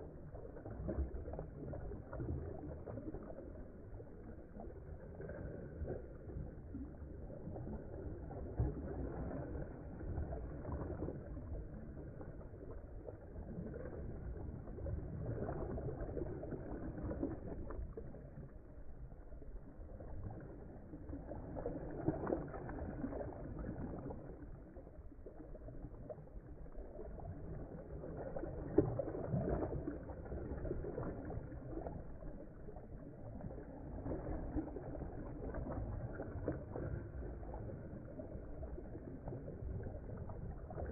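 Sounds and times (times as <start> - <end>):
river water lapping: 0.0 - 40.9.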